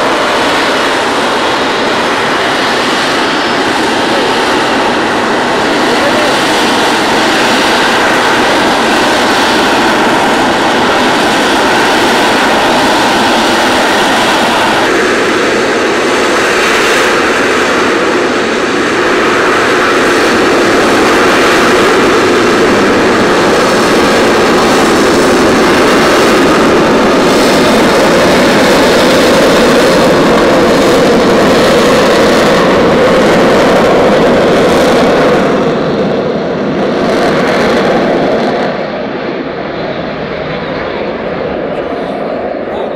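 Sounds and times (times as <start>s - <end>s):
jet engine roaring: 0.0s - 42.9s.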